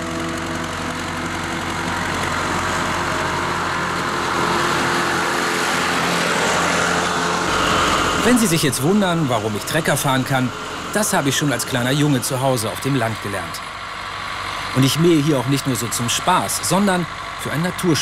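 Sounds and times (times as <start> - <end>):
tractor engine droning: 0.0 - 18.0.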